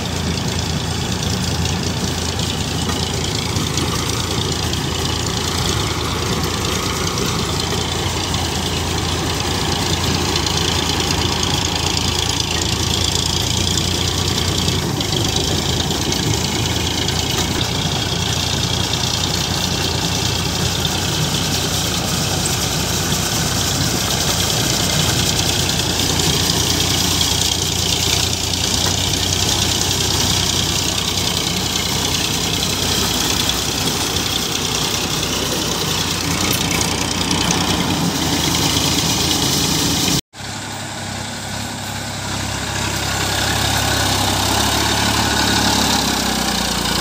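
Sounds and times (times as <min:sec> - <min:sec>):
diesel tractor engines running: 0:00.0 - 0:47.0.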